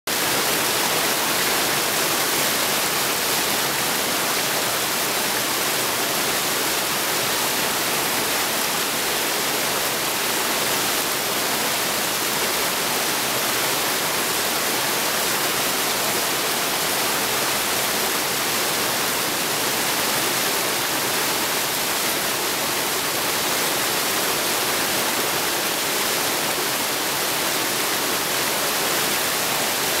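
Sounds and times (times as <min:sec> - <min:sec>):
creek rushing over boulders: 0:00.1 - 0:30.0.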